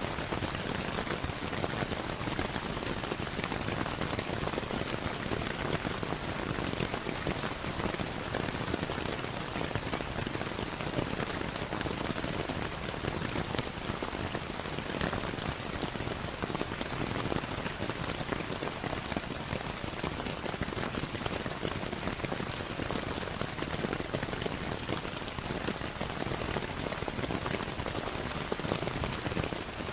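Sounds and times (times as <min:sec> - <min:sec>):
rain pattering: 0:00.0 - 0:29.9.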